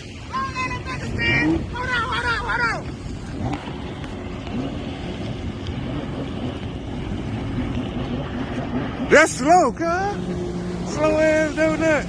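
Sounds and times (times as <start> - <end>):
jet ski engine humming: 0.0 - 12.0
water noise: 0.0 - 12.0
wind: 0.0 - 12.0.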